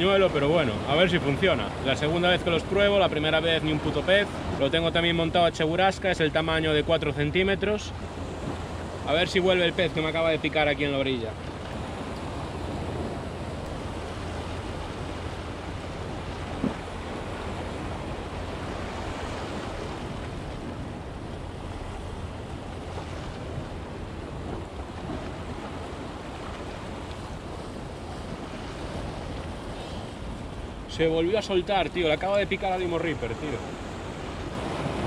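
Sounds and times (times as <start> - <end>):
small waves washing at shore: 0.0 - 35.0.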